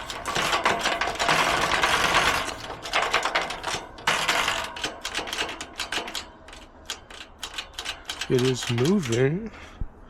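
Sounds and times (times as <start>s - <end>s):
power screwdriver rattling: 0.0s - 9.2s.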